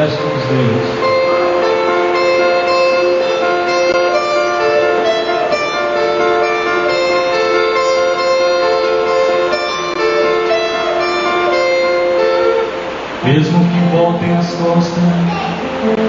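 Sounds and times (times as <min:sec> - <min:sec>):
guitar playing chords: 0:00.0 - 0:16.0.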